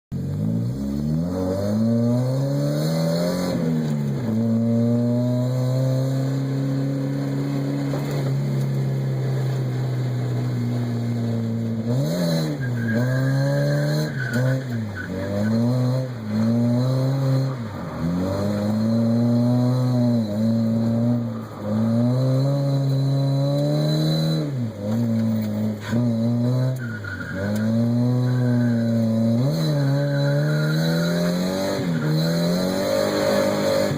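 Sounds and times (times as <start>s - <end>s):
car engine revving hard: 0.2s - 33.9s.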